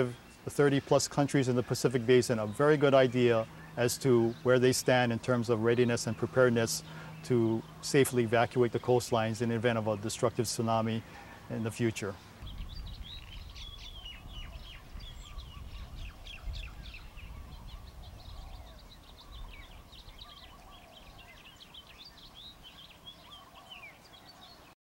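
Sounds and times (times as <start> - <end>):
small birds chirping: 0.0 - 24.8
low steady rumble: 0.1 - 23.4.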